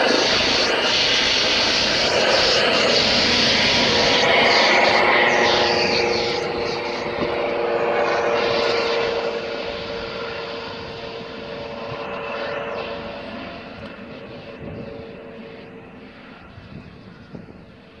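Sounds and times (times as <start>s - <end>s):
helicopter flying away: 0.0s - 18.0s.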